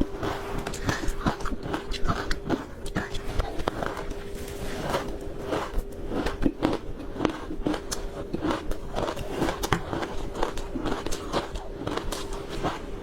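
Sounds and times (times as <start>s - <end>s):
faint steady hum: 0.0s - 13.0s
ice crunching while chewed: 0.0s - 13.0s.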